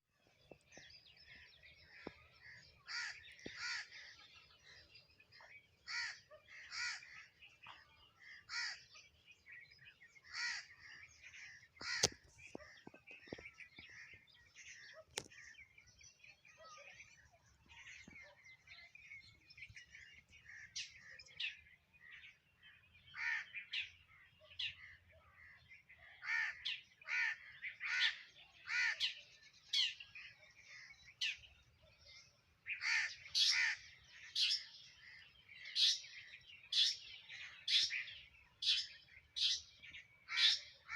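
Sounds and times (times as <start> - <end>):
sparrows chirping: 0.1 - 40.9.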